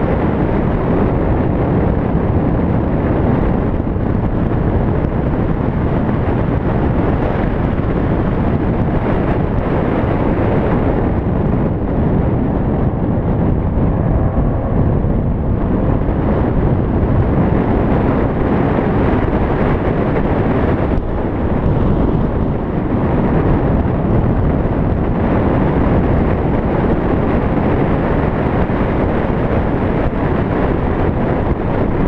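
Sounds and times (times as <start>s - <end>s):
car engine and tyre noise: 0.0s - 32.0s
wind buffeting microphone: 0.0s - 32.0s.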